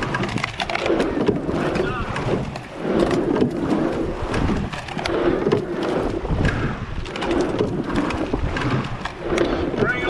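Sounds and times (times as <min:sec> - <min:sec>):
rushing water: 0:00.0 - 0:10.0
seats rolling on slides: 0:00.0 - 0:10.0
wind on microphone: 0:00.0 - 0:10.0.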